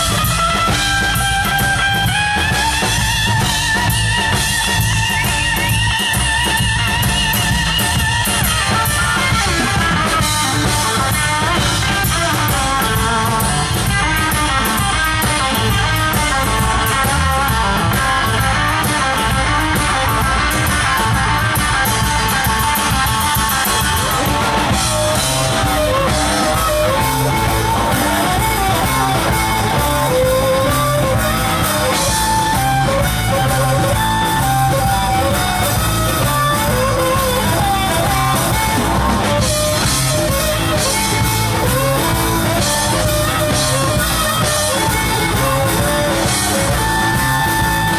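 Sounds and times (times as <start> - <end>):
drum kit: 0.0 - 47.9
electric guitars: 0.0 - 47.9
harmonica: 0.0 - 47.9.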